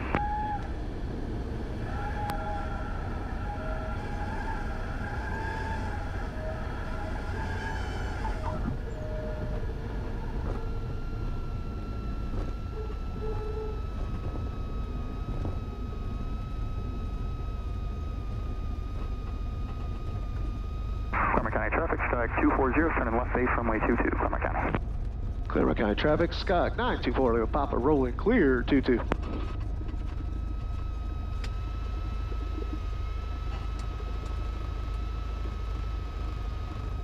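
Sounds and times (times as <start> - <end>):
propeller plane engine droning: 0.0 - 37.0.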